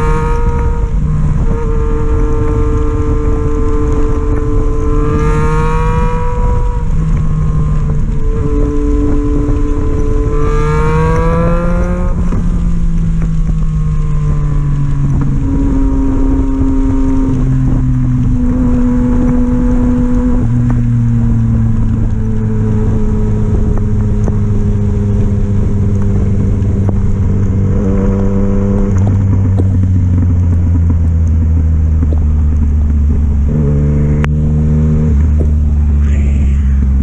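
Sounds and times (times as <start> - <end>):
motorcycle engine accelerating: 0.0 - 37.0
wind rumble on microphone: 0.0 - 37.0.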